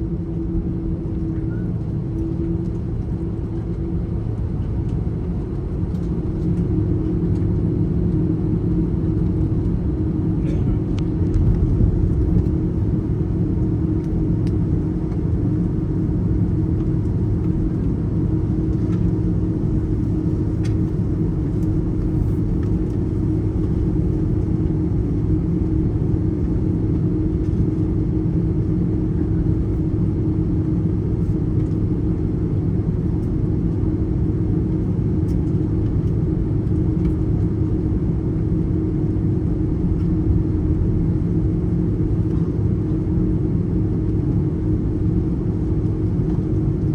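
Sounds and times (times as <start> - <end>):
jet engine cabin drone: 0.0 - 46.9.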